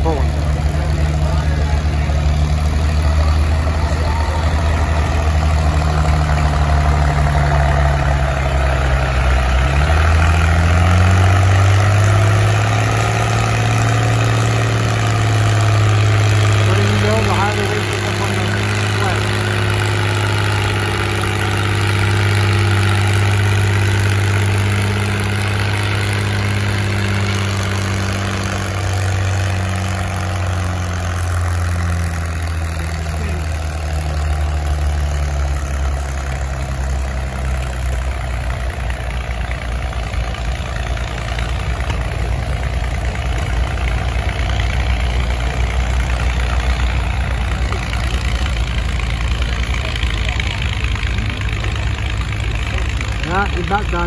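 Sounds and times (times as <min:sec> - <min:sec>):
tractor engine rumbling: 0:00.0 - 0:54.0.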